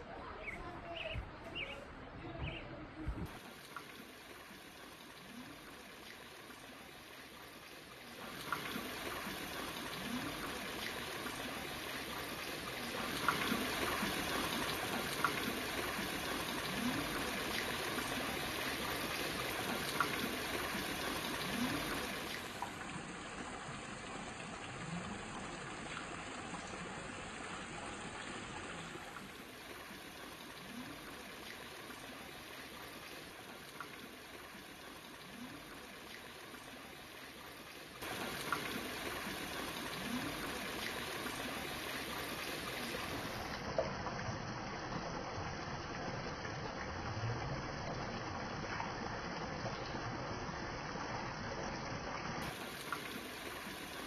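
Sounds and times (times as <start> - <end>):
small water gurgles: 0.0 - 54.0
water trickling in a pond: 0.2 - 54.0.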